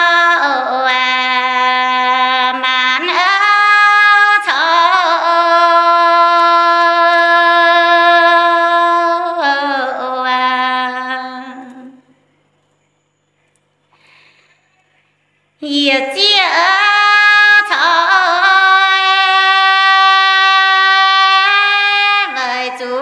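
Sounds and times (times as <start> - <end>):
woman singing unaccompanied: 0.0 - 12.2, 15.6 - 23.0.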